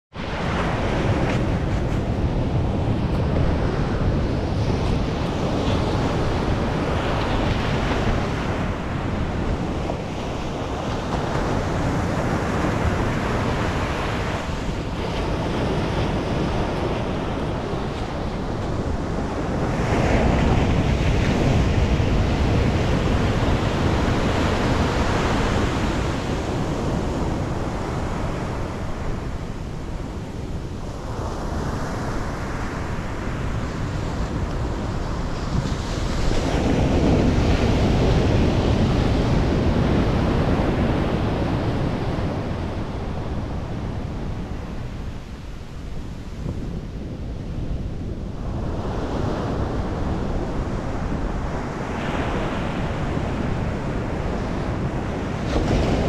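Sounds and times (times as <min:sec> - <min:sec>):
surf breaking on a beach: 0:00.1 - 0:56.0
wind rumble on microphone: 0:00.1 - 0:56.0.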